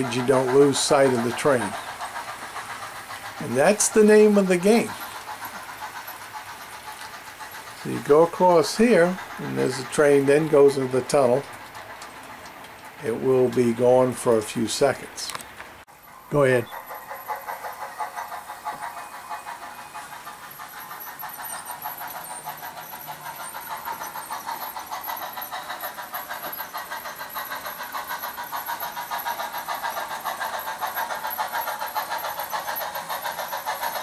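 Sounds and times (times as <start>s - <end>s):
model steam locomotive running: 0.0s - 34.0s.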